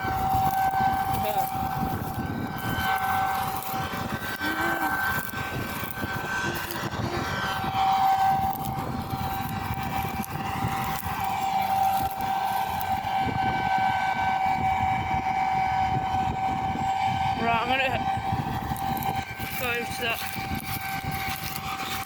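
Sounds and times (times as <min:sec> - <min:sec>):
high-pitched machinery whine: 0:00.0 - 0:22.0.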